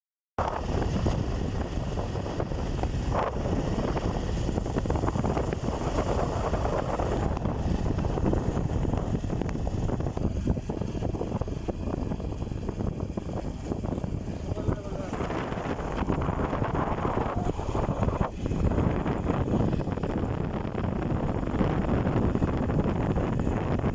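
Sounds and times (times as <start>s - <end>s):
motorcycle engine running: 0.4s - 23.9s
wind buffeting microphone: 0.4s - 23.9s.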